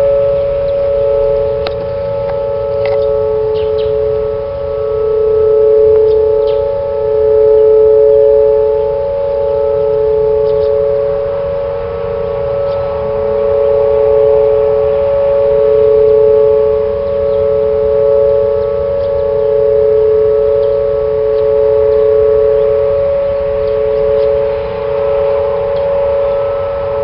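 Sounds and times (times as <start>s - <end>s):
two-note warning siren: 0.0s - 27.0s.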